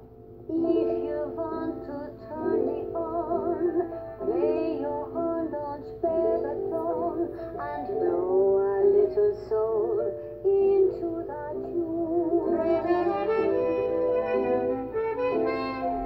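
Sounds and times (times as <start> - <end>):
jazz song with wordless singing: 0.0 - 16.0.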